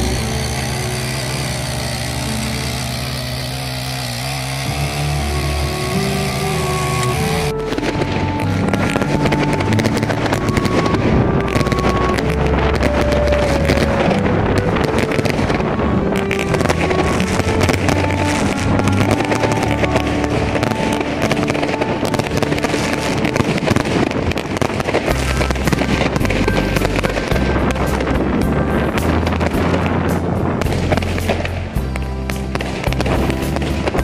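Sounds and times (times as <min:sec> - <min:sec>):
background music: 0:00.0 - 0:34.0
fireworks hissing and crackling: 0:00.0 - 0:34.0
small engine running: 0:00.0 - 0:34.0.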